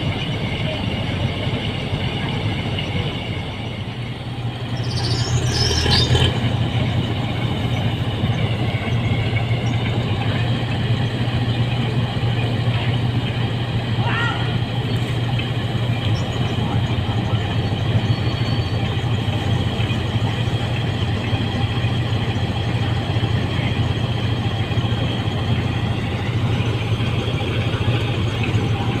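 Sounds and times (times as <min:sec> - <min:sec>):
diesel engine humming: 0:00.0 - 0:29.0.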